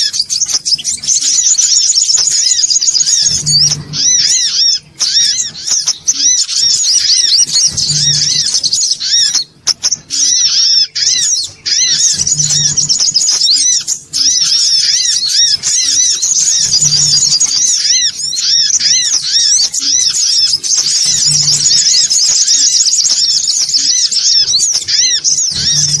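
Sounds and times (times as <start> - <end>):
bird chattering song: 0.0 - 26.0.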